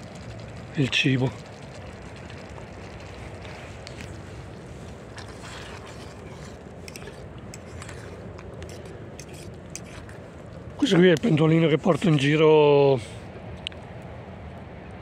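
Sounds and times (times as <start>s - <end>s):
wood fire rushing: 0.0s - 13.6s
fire crackles and ticks: 0.0s - 15.0s.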